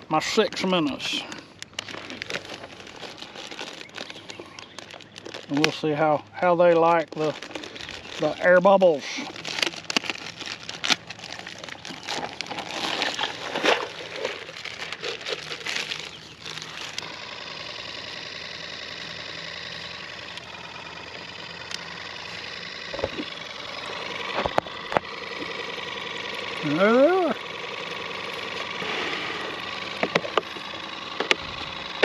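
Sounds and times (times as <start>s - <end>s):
aerator pump buzzing hum: 0.0s - 32.0s
plastic bag crinkling: 0.5s - 26.7s, 27.4s - 32.0s.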